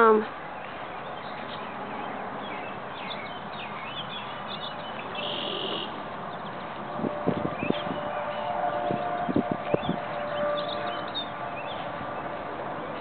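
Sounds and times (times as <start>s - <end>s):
small birds chirping: 0.0s - 11.9s
steady outdoor hiss: 0.0s - 13.0s.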